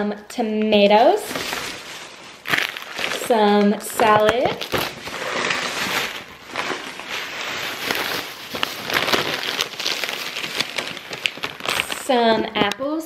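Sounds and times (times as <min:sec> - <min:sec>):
plastic packaging rustling: 0:00.7 - 0:13.0.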